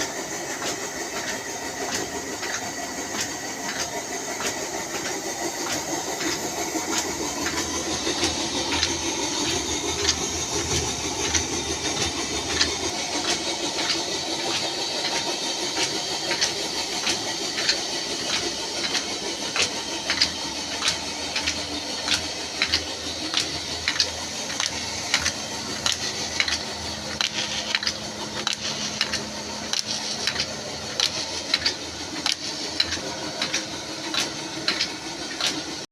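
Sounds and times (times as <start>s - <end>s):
flour mill grinding: 0.0s - 35.8s
regular mill ticking: 0.0s - 35.9s.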